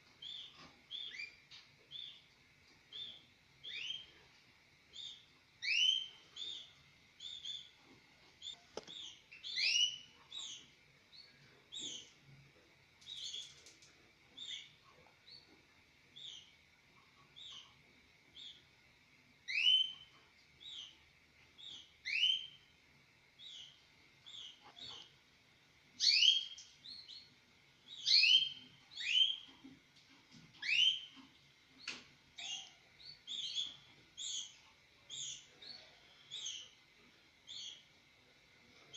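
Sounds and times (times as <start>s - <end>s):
canaries chirping: 0.0s - 18.8s, 19.4s - 22.8s, 23.4s - 25.2s, 25.9s - 38.0s.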